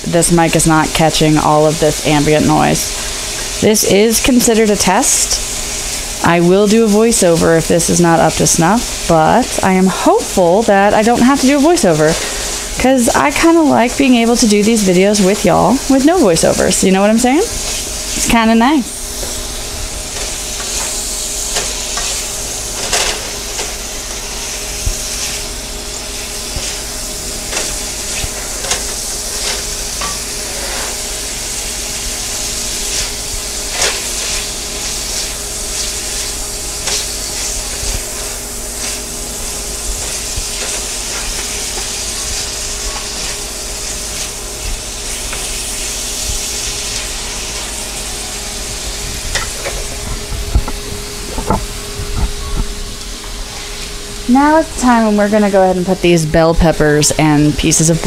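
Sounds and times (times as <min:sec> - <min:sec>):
meat sizzling in a frying pan: 0:00.0 - 0:55.3.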